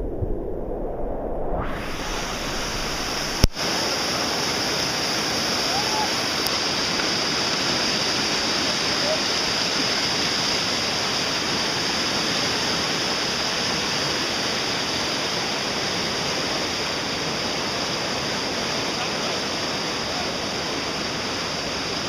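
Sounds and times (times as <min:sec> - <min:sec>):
whitewater rushing: 0:01.7 - 0:22.0.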